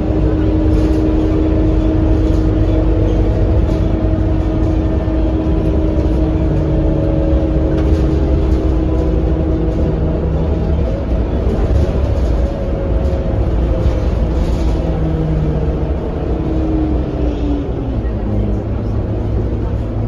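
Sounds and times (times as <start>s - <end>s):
bus diesel engine rumbling: 0.0s - 20.0s.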